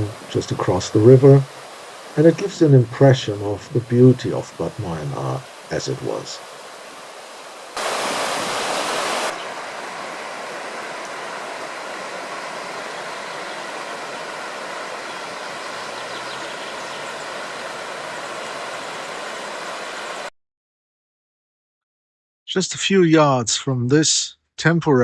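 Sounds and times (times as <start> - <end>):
river rushing: 0.0 - 20.3.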